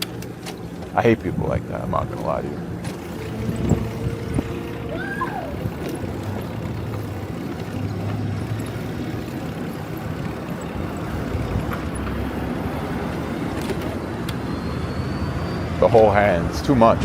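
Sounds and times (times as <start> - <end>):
motorcycle engine hum: 0.0 - 17.0
road and air noise: 0.0 - 17.0.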